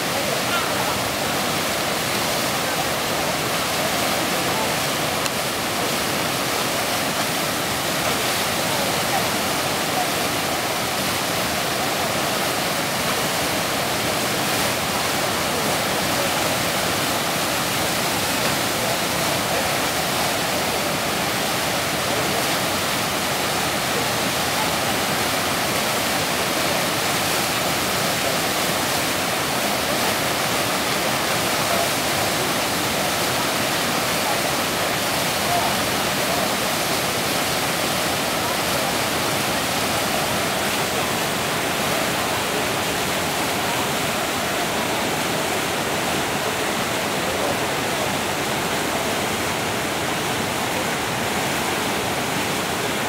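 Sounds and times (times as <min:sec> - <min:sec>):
sea water rushing in rapids: 0:00.0 - 0:53.0.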